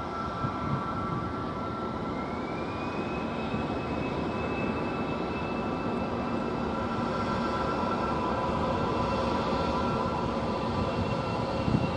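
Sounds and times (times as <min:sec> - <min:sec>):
jet engines spooling up: 0:00.0 - 0:11.9.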